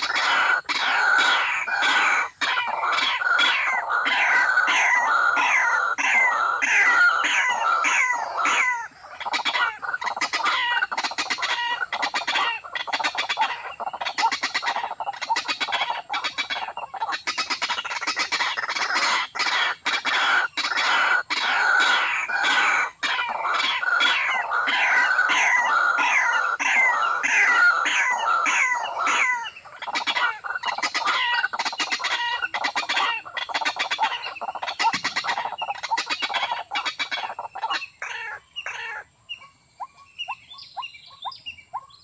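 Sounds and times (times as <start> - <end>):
waterhens calling: 0.0 - 39.1.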